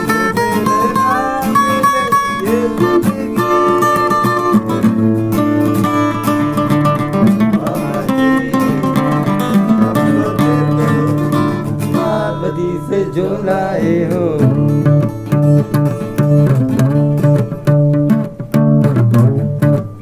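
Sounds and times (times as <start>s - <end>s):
acoustic guitars strumming and picking: 0.0s - 20.0s.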